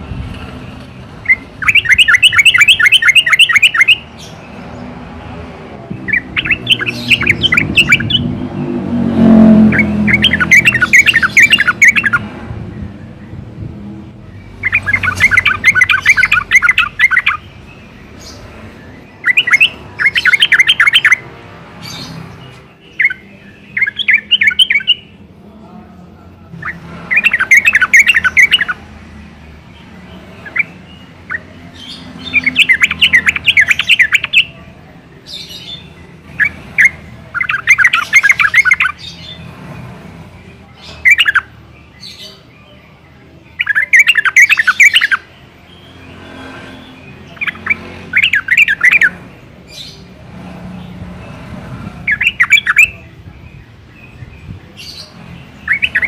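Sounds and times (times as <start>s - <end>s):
bird chattering song: 1.1s - 5.0s, 5.9s - 25.8s, 26.4s - 56.0s.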